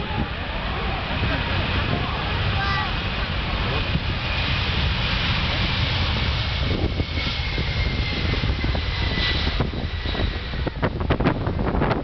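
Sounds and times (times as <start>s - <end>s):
jet engines roaring at takeoff: 0.0s - 12.0s.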